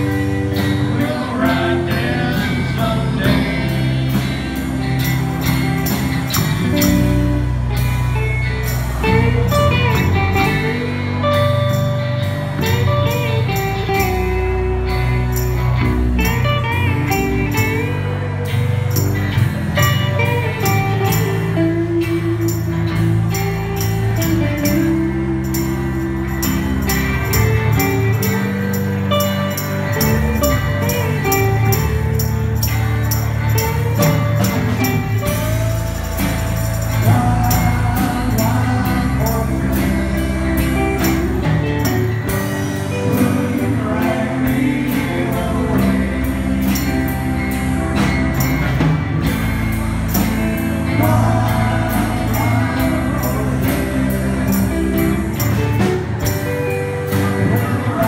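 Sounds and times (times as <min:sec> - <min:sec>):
live rock band playing slow song: 0:00.0 - 0:58.0.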